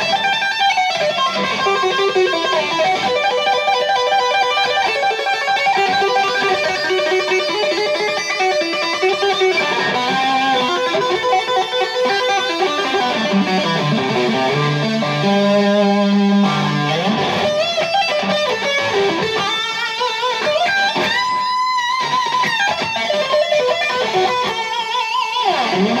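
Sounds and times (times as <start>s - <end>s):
electric guitar lead tapping: 0.0s - 26.0s.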